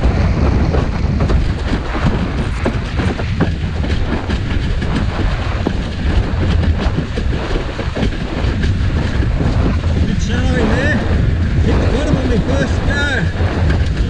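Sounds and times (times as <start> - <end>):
board slapping on water: 0.0 - 14.0
water rushing under board: 0.0 - 14.0
wind buffeting microphone: 0.0 - 14.0.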